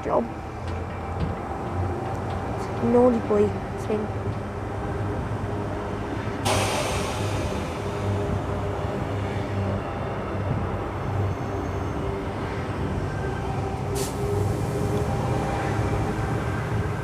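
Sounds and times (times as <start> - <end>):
electric train equipment humming: 0.0 - 17.0.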